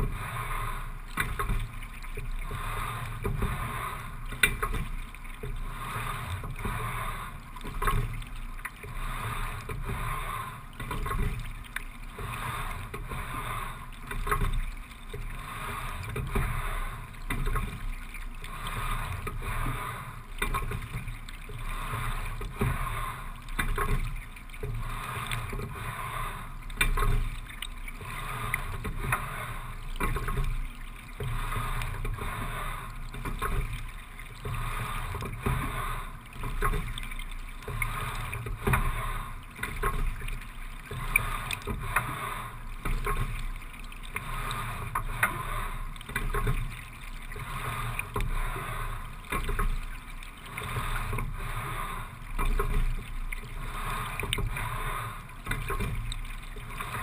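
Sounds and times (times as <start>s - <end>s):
rowing strokes: 0.0s - 57.0s
water washing: 0.0s - 57.0s.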